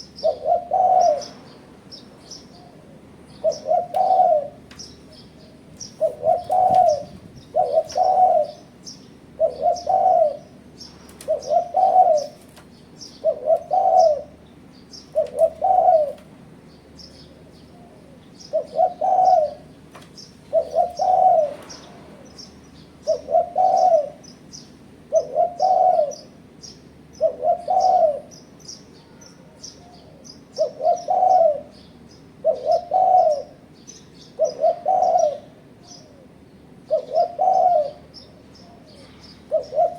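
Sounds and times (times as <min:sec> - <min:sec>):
dove cooing: 0:00.0 - 0:01.6, 0:02.3 - 0:14.4, 0:15.0 - 0:16.3, 0:17.1 - 0:19.8, 0:20.4 - 0:22.4, 0:23.0 - 0:24.3, 0:25.0 - 0:28.4, 0:29.0 - 0:39.9
small birds chirping: 0:00.0 - 0:39.9.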